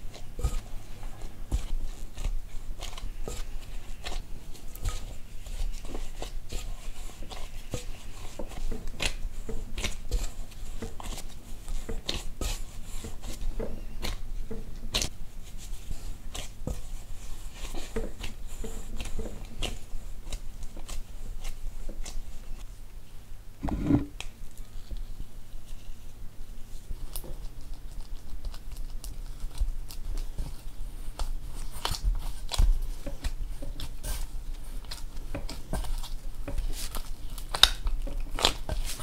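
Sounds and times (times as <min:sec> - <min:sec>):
dough pats and squishes: 0:00.0 - 0:39.0.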